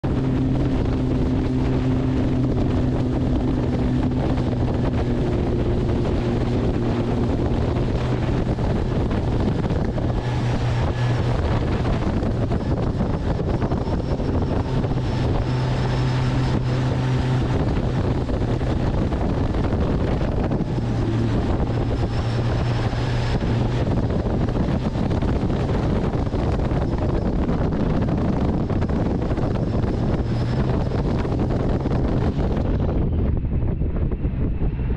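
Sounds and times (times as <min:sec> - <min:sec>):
boat motor running: 0:00.0 - 0:34.9
wind buffeting microphone: 0:00.0 - 0:34.9.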